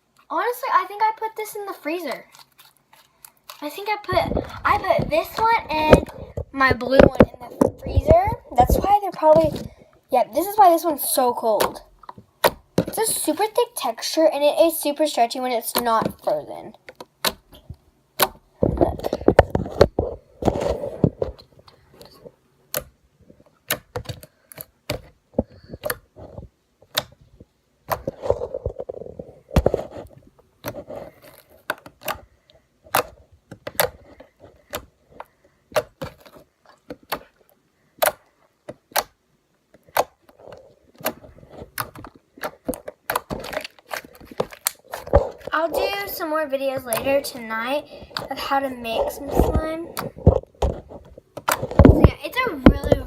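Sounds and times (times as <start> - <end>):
slime squishing by hand: 0.0 - 53.0.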